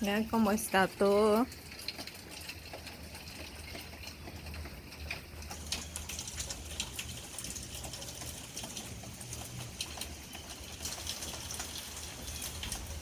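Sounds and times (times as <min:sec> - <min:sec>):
rain dripping and pattering: 0:00.0 - 0:13.0.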